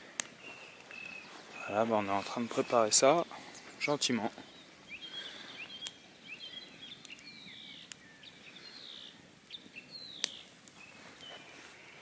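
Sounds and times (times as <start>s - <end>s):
campfire crackling pops: 0.0s - 11.4s
small birds chirping: 0.0s - 12.0s.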